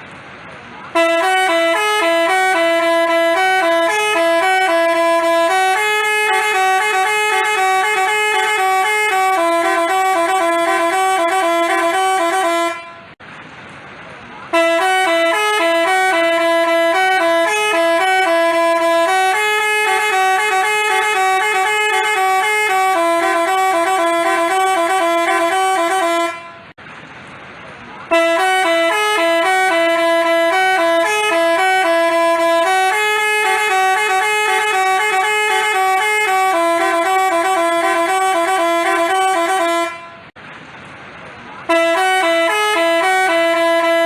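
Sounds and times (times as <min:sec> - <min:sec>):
multi-tone musical horn melody: 0:00.9 - 0:13.2, 0:14.5 - 0:26.7, 0:28.1 - 0:40.4, 0:41.7 - 0:44.0.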